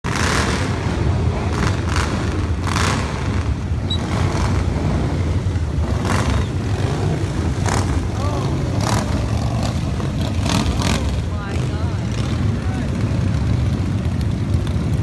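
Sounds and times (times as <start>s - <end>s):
motorcycle engines rumbling: 0.0s - 15.0s
motorcycles rushing past: 0.1s - 15.0s.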